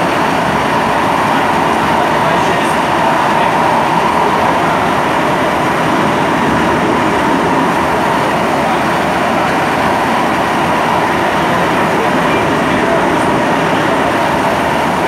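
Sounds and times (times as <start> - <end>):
traction motor whine: 0.0 - 15.0
train wheels rumbling: 0.0 - 15.0.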